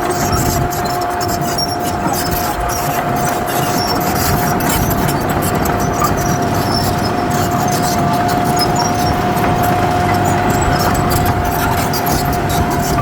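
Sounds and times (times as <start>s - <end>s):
earthmoving machine diesel engine: 0.0s - 13.0s.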